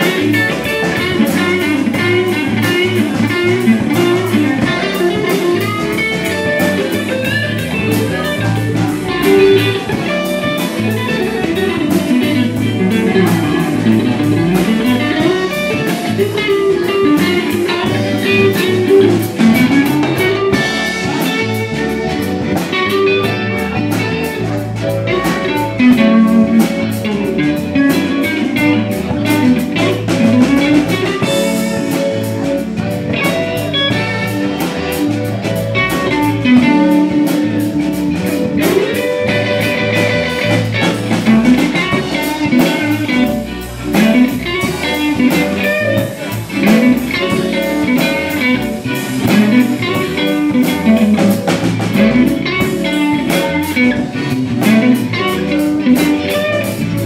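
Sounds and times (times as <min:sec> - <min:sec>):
drum kit with cymbals: 0:00.0 - 0:57.0
electric guitar lead: 0:00.0 - 0:57.0
electric keyboard: 0:00.0 - 0:57.0.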